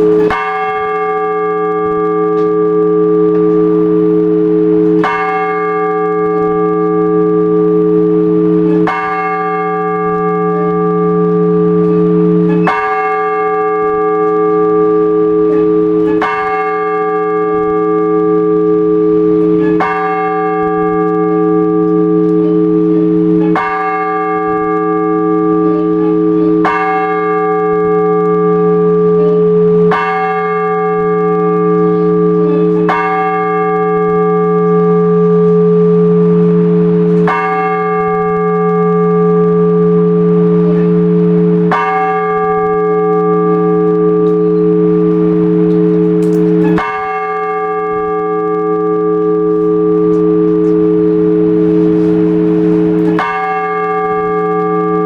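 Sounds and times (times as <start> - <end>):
large church bell tolling: 0.0 - 55.0.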